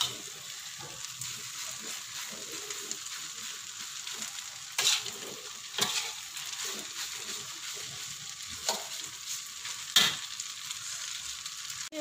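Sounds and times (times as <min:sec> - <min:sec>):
spatula stirring in a wok: 0:00.0 - 0:11.9
noodles sizzling in hot oil: 0:00.0 - 0:12.0.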